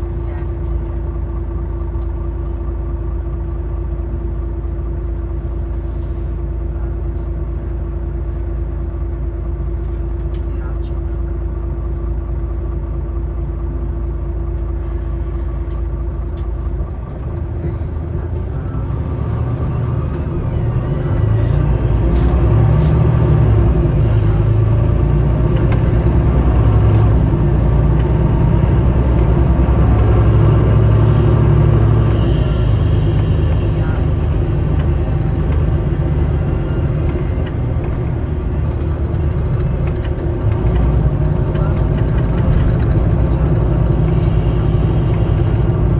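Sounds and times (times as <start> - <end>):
bus drivetrain and road rumble: 0.0 - 45.9
bus interior hum with held tone: 0.0 - 45.9.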